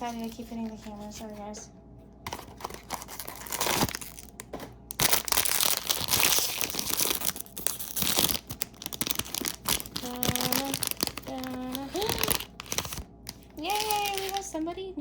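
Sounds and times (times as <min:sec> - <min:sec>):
foil bag tearing and crinkling: 0:02.5 - 0:14.6.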